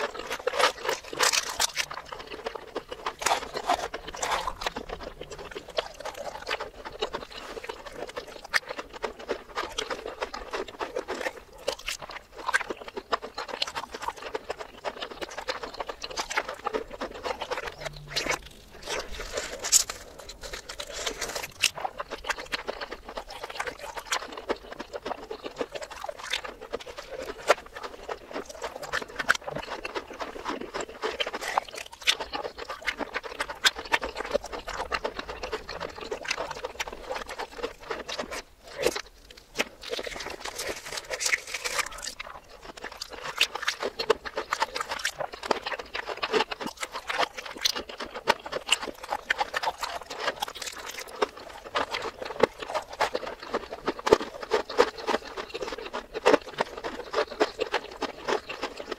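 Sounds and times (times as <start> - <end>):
reversed chewing and crunching: 0.0 - 58.9.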